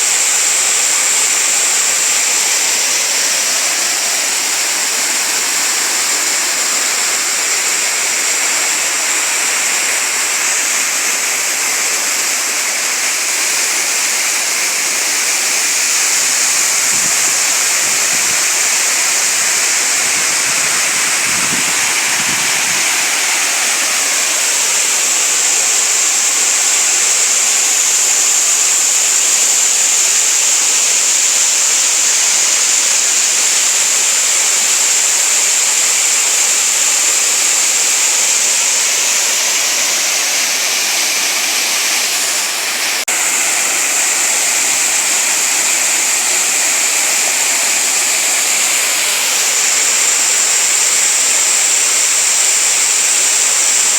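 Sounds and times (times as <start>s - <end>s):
small waterfall rushing: 0.0s - 53.9s.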